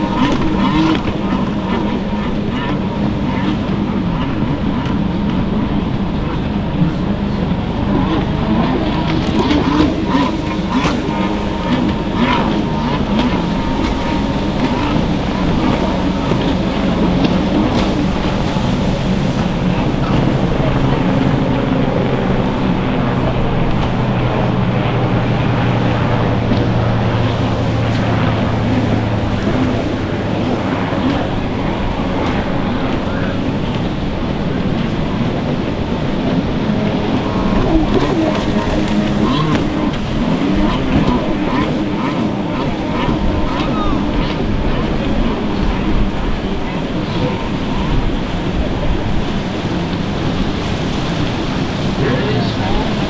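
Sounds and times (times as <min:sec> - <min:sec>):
jet ski engines running hard: 0:00.0 - 0:53.0
steady rushing noise: 0:00.0 - 0:53.0
wind buffeting microphone: 0:00.0 - 0:53.0.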